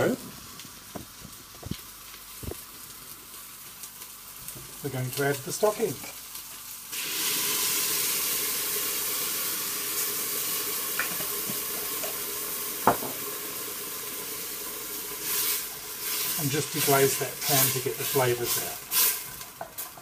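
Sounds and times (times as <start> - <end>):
broth sizzling in hot pot: 0.0 - 20.0.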